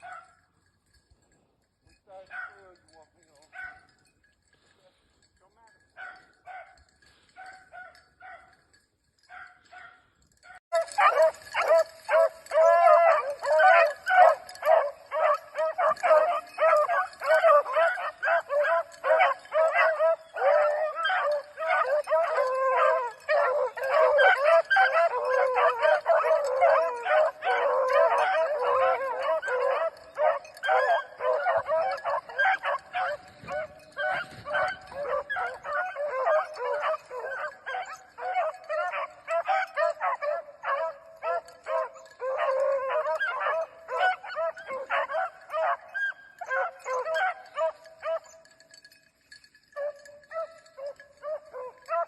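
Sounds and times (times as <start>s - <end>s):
dogs baying and howling: 0.0s - 1.0s, 6.0s - 52.0s.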